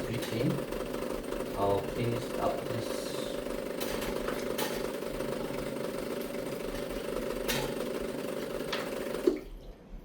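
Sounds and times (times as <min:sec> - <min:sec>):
espresso machine pump buzzing: 0:00.0 - 0:09.4.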